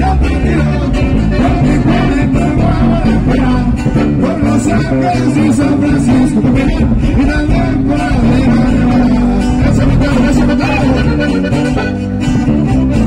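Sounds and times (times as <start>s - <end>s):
acoustic guitars strumming: 0.0s - 13.0s
button accordion melody: 0.0s - 13.0s.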